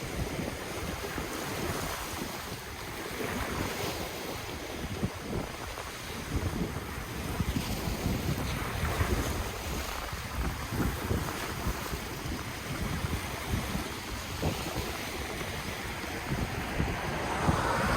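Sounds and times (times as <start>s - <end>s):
ocean waves washing on shore: 0.0s - 17.9s
wind buffeting the microphone: 0.0s - 17.9s.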